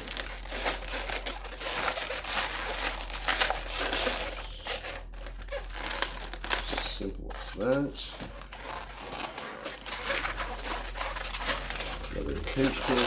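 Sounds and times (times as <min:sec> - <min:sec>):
latex balloons creaking: 0:00.0 - 0:13.0.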